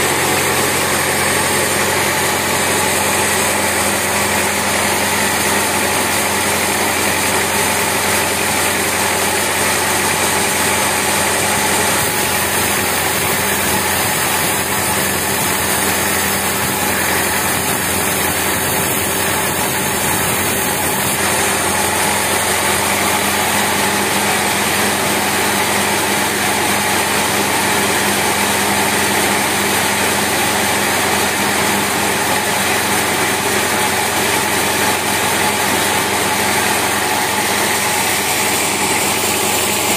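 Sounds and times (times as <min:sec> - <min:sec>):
band sawmill drone: 0:00.0 - 0:39.9.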